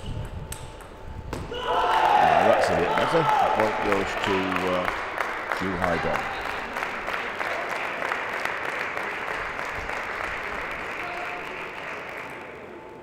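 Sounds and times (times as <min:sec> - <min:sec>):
spectators applauding: 0:01.8 - 0:13.0.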